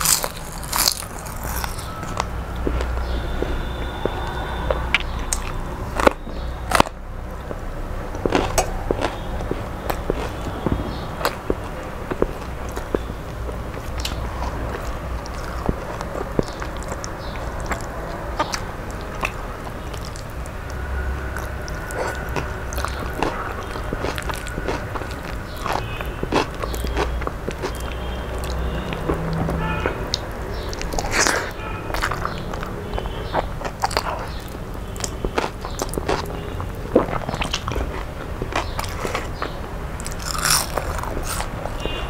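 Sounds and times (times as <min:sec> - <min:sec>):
wet chewing with mouth clicks: 0:00.0 - 0:42.0.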